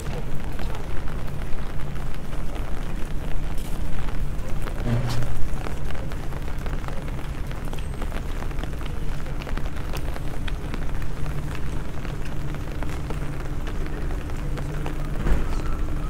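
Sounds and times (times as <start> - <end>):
rain drops ticking on stone: 0.0 - 16.0.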